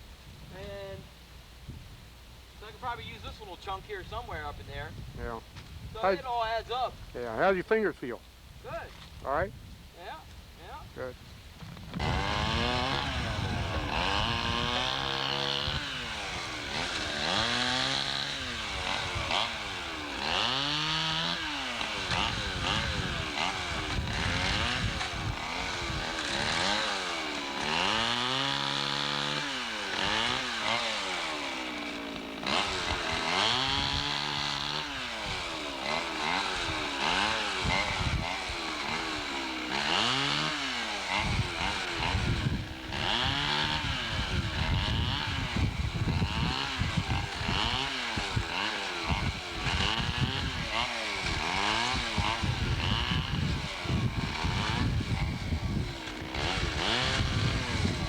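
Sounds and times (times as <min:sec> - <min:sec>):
chainsaw engine revving: 0:02.6 - 0:58.0.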